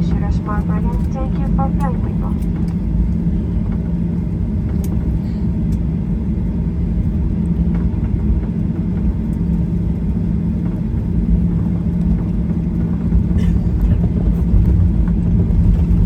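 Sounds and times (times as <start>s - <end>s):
aircraft cabin rumble: 0.0s - 16.0s
constant low hum: 0.0s - 16.0s.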